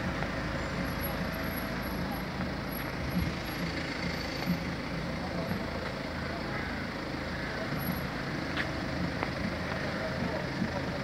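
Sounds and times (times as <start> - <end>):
outdoor street noise: 0.0 - 11.0
van engine idling: 0.0 - 11.0.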